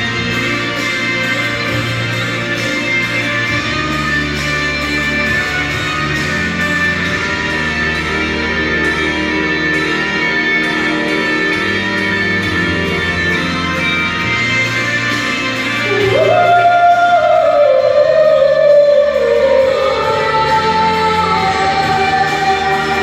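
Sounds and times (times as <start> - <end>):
held chords over bass notes: 0.0 - 23.0.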